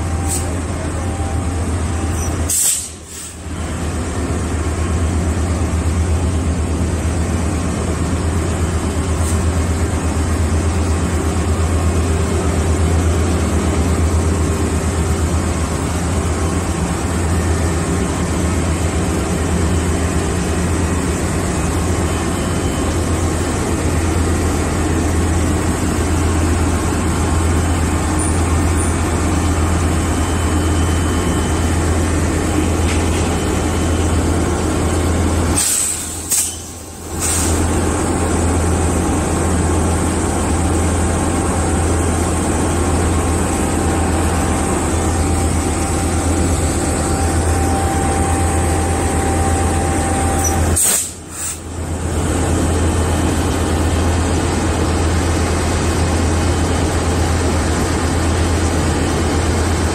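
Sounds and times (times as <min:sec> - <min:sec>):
diesel train engine idling: 0:00.0 - 0:59.9.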